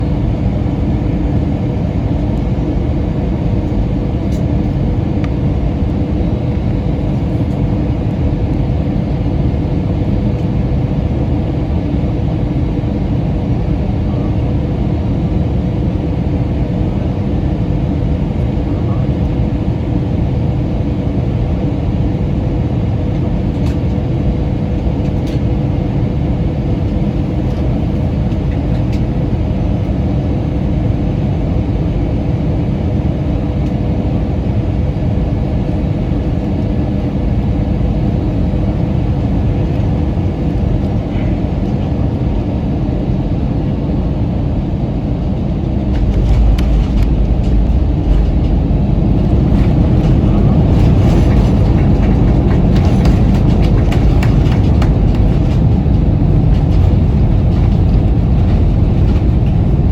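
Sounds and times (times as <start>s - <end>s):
airliner engines droning: 0.0s - 59.9s
wheels rumbling on runway: 0.0s - 59.9s.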